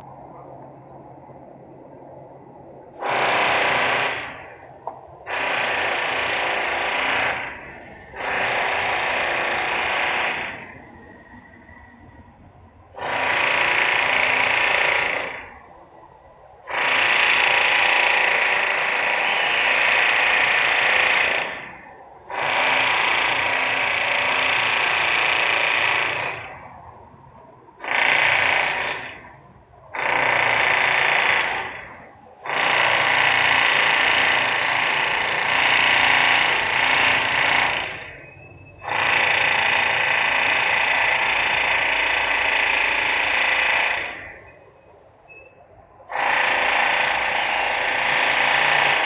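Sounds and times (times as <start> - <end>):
industrial power tool bursts: 2.9 - 11.2, 13.0 - 15.6, 16.7 - 26.7, 27.8 - 44.6, 46.1 - 49.0.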